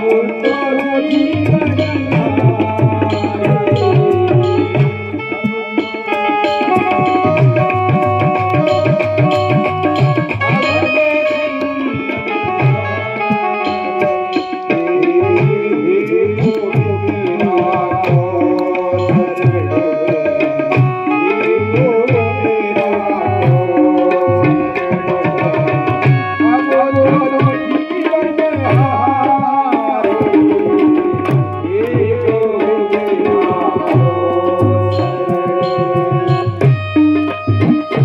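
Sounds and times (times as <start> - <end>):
held wavering melody: 0.0 - 38.0
tabla rhythm: 0.0 - 38.0.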